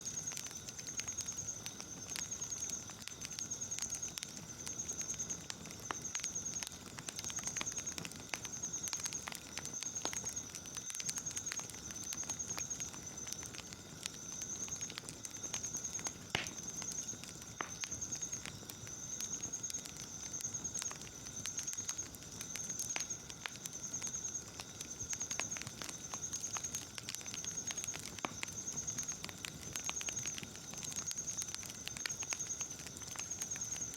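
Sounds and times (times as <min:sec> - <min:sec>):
night insects trilling: 0:00.0 - 0:33.9
wood fire crackling: 0:00.0 - 0:33.9.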